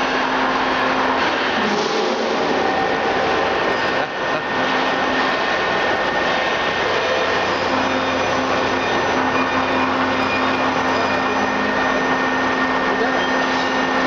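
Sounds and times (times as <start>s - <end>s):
constant machine hum: 0.0s - 14.0s
milling machine running: 0.0s - 14.0s.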